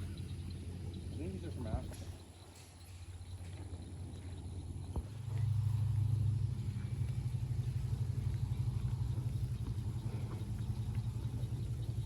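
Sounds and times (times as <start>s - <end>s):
vehicle engine pulsing hum: 0.0s - 12.0s.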